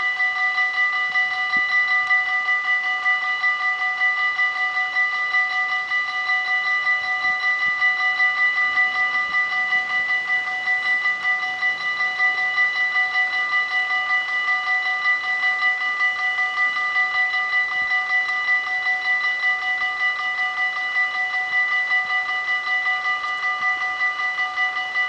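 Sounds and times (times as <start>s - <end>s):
level crossing bell ringing: 0.0s - 25.0s.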